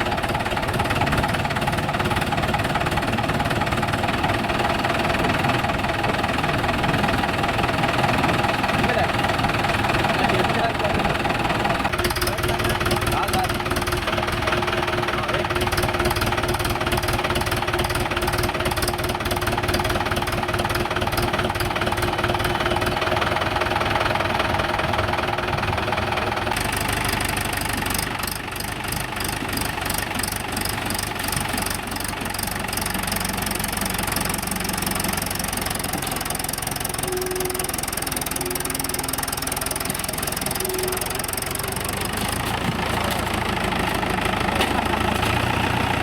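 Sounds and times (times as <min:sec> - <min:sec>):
tractor diesel engine knocking: 0:00.0 - 0:46.0.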